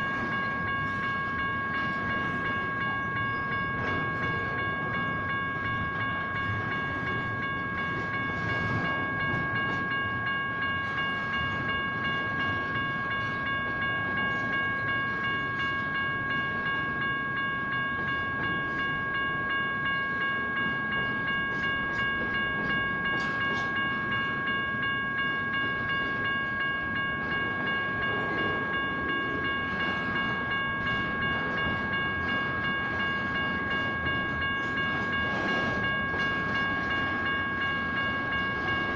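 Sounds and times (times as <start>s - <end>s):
crossing bells ringing: 0.0s - 38.9s.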